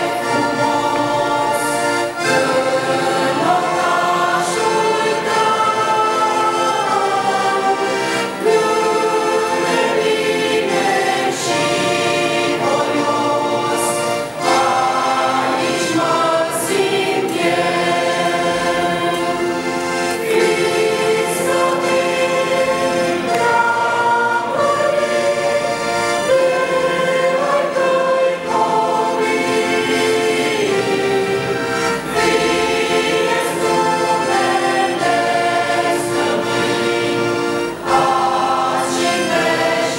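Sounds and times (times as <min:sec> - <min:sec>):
accordion: 0:00.0 - 0:39.9
choir singing a hymn: 0:00.0 - 0:39.9.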